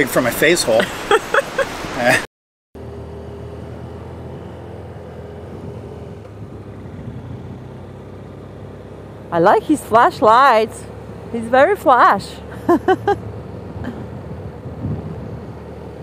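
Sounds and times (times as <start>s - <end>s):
motorcycle engine running: 2.8s - 16.0s.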